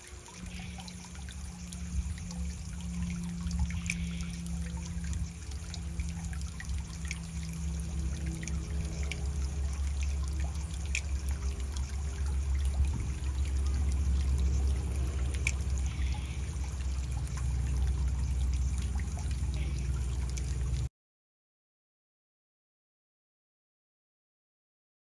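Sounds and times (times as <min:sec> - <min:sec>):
steady low rumble: 0:00.0 - 0:20.9
water trickling and splashing: 0:00.0 - 0:20.9.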